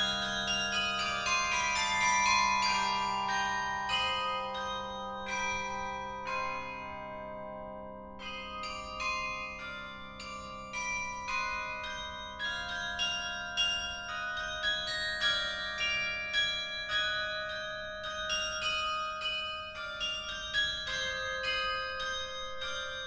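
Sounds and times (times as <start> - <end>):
carillon bells playing melody: 0.0 - 6.8, 8.2 - 23.0.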